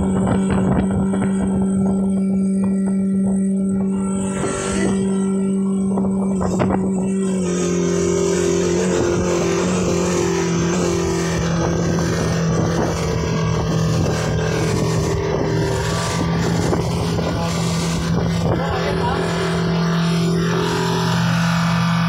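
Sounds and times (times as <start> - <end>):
outboard motor running: 0.0 - 22.0
water rushing against hull: 0.0 - 22.0
wind: 0.0 - 22.0.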